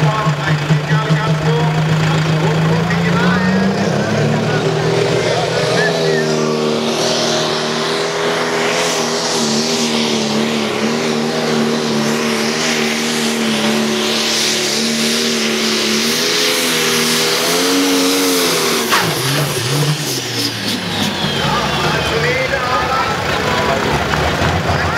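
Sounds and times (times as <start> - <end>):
tractor diesel engine under load: 0.0 - 24.9.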